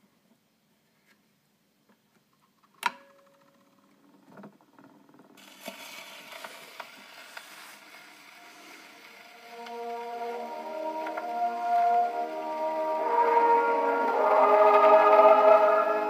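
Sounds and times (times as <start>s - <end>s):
record surface hiss and crackle: 0.0s - 16.0s.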